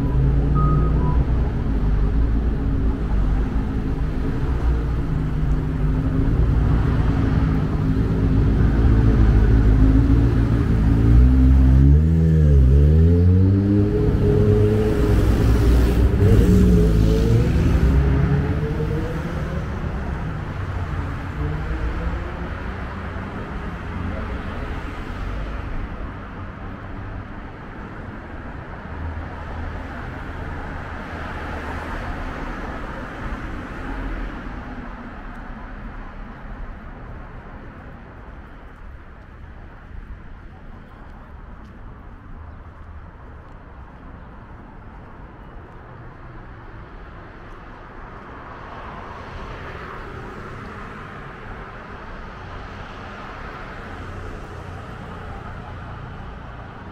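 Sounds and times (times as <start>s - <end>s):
street traffic: 0.0s - 56.9s.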